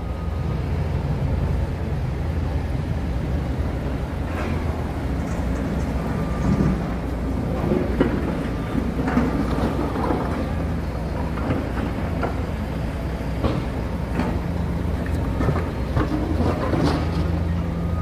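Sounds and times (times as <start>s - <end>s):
city traffic: 0.0s - 18.0s
diesel machinery rumble: 0.0s - 18.0s.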